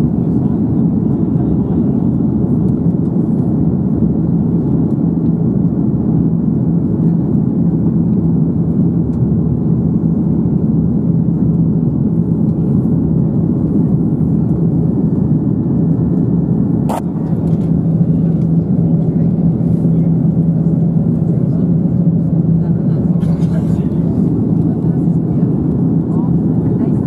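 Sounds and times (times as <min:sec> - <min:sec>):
airliner cabin engine roar: 0:00.0 - 0:27.0.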